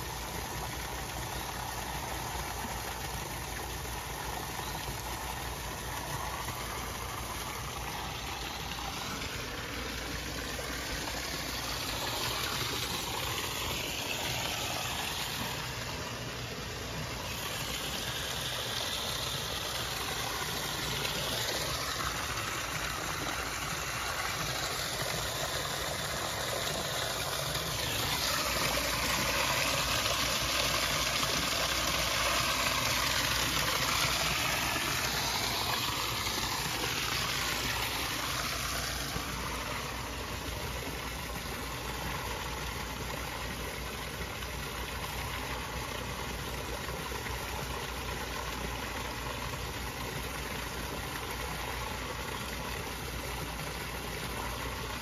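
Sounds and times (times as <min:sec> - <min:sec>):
low pump hum: 0:00.0 - 0:55.0
water rushing: 0:00.0 - 0:55.0.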